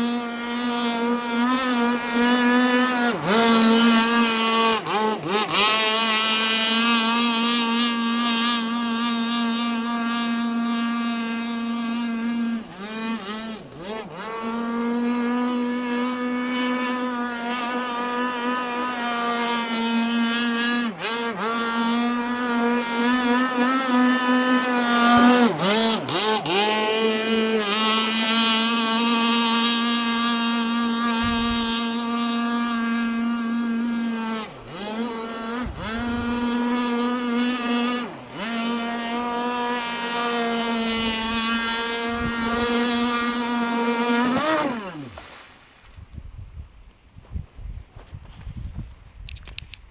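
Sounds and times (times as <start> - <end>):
model boat motor whining: 0.0 - 45.5.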